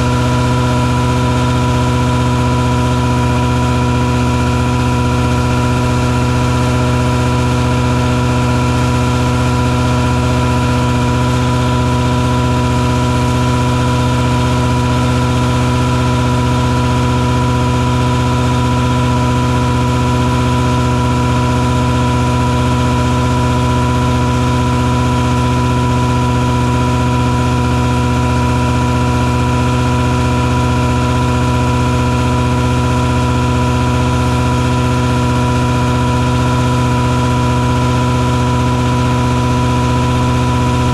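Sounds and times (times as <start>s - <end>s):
fogging truck engine drone: 0.0s - 40.9s.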